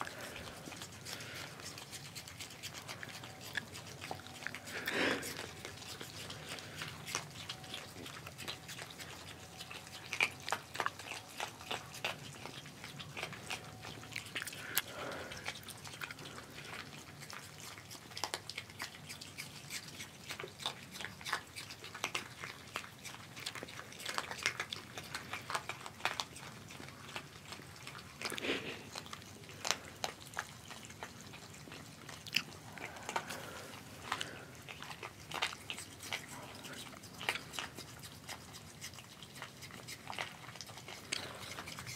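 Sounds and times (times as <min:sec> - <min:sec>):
animals crunching dry kibble: 0:00.0 - 0:41.9.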